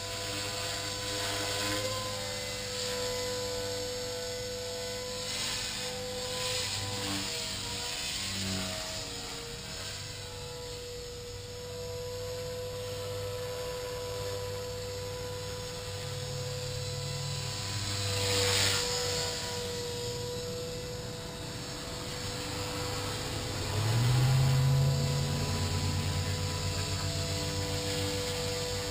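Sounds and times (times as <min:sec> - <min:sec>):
high motor whine: 0:00.0 - 0:28.9
rotor hum: 0:00.0 - 0:28.9.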